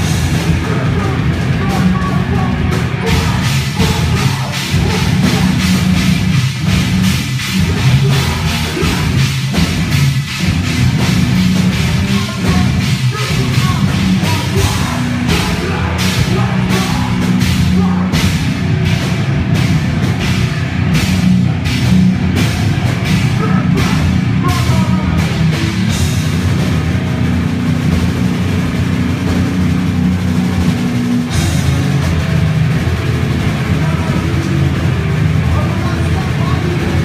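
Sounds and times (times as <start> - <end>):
bass guitar: 0.0 - 37.0
distorted electric guitar: 0.0 - 37.0
drum kit: 0.0 - 37.0.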